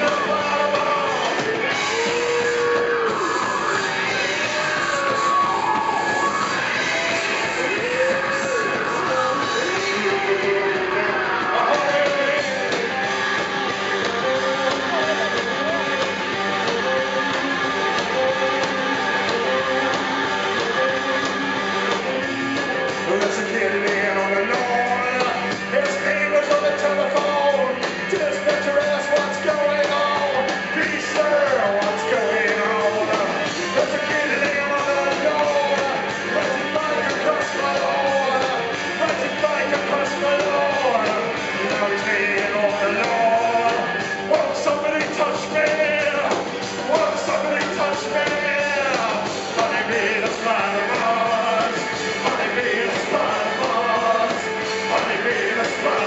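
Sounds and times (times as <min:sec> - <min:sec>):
man singing into microphone: 0:00.0 - 0:13.0, 0:22.1 - 0:56.0
live rock band playing: 0:00.0 - 0:56.0.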